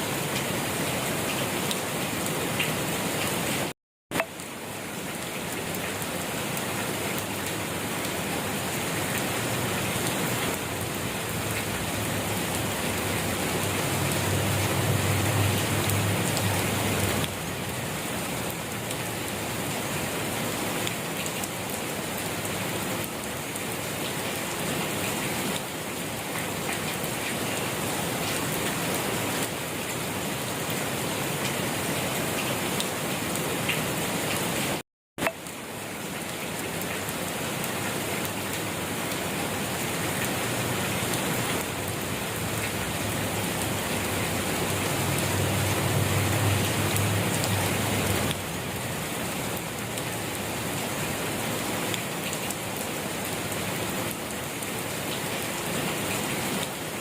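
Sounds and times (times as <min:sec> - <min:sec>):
rain patter: 0:00.0 - 0:57.0.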